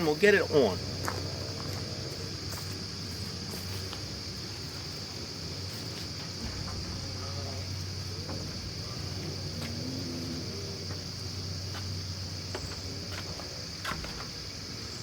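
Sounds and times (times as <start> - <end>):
high-pitched insect chorus: 0.0 - 15.0
low engine hum: 0.0 - 15.0.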